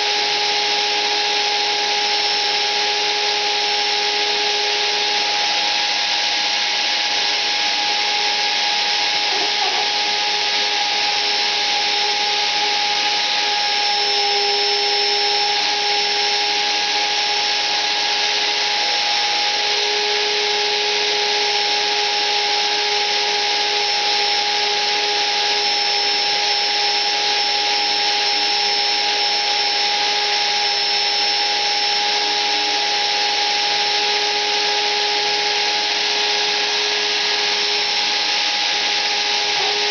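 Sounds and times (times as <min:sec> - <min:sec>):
electric motor whining with hiss: 0:00.0 - 0:39.9.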